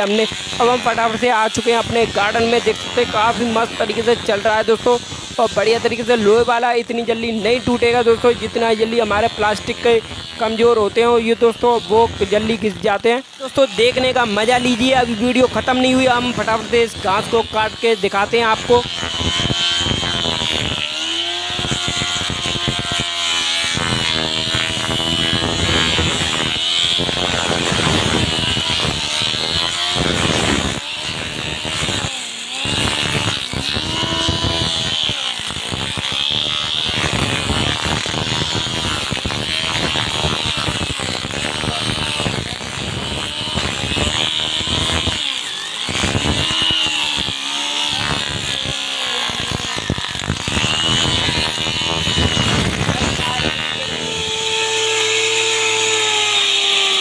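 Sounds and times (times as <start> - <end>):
grass cutter motor whine: 0.0 - 57.0.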